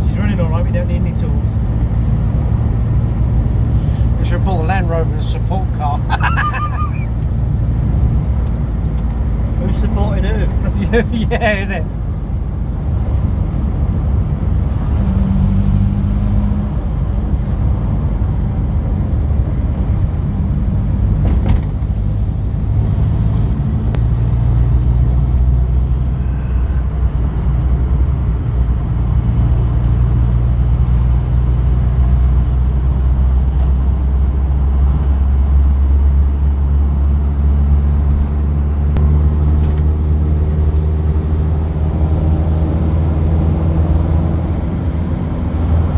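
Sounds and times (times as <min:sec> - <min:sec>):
car engine drone: 0:00.0 - 0:45.9
road rumble: 0:00.0 - 0:45.9.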